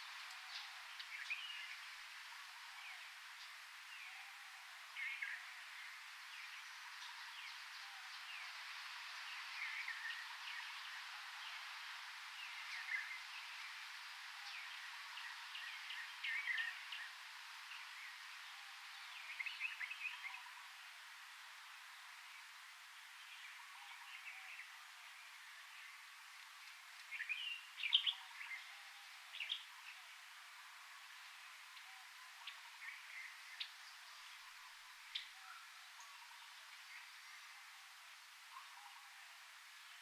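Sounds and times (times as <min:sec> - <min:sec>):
rainforest ambience hiss: 0:00.0 - 0:40.0.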